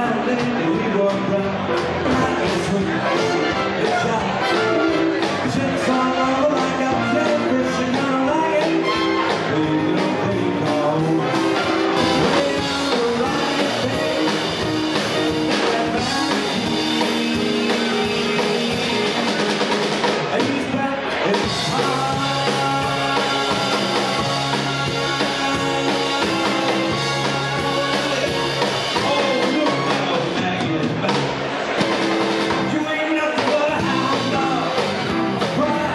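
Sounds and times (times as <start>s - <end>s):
person singing: 0.0s - 31.4s, 32.5s - 35.9s
drum kit beat: 0.0s - 35.9s
swing band playing: 0.0s - 35.9s.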